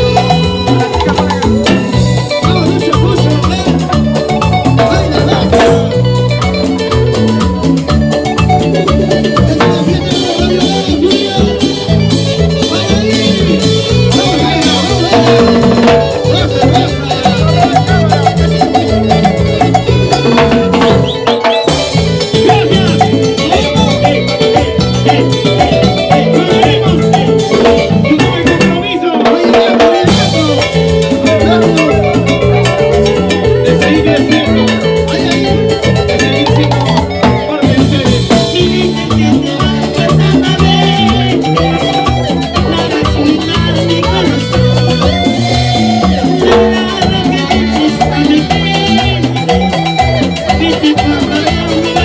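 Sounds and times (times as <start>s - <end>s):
busy percussion: 0.0s - 52.0s
live band music: 0.0s - 52.0s.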